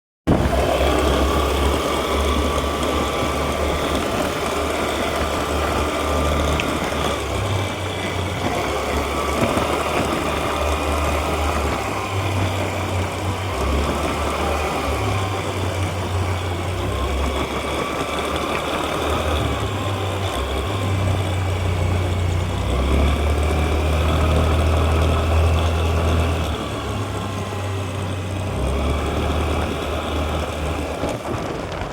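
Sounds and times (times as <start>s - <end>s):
high whine over engine: 0.3s - 31.9s
scooter engine running: 0.3s - 31.9s.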